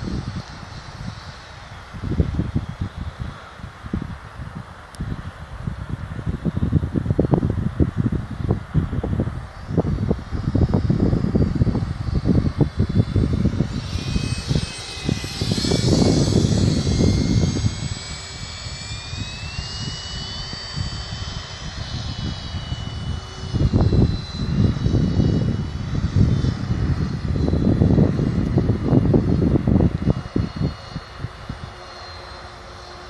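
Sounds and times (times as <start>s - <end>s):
wind buffeting microphone: 0.0s - 32.2s
model jet fan whining: 0.0s - 33.0s.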